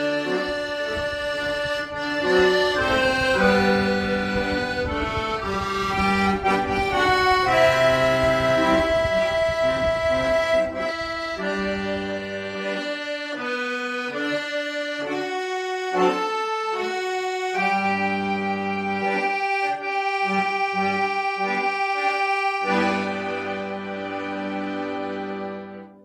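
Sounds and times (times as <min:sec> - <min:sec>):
accordion melody: 0:00.0 - 0:26.0.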